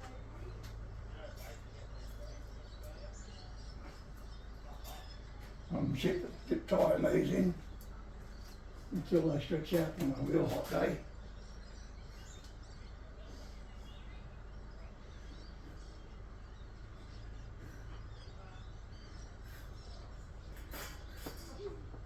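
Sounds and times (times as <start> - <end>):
faint bird chirps: 0.0 - 22.0
steady low hum: 0.0 - 22.0.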